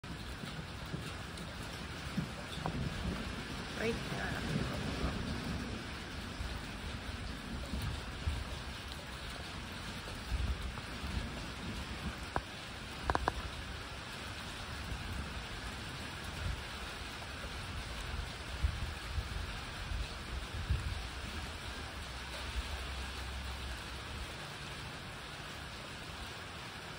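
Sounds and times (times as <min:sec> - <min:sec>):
low thunder rumbles: 0:00.0 - 0:24.4
steady rain falling: 0:00.0 - 0:26.9.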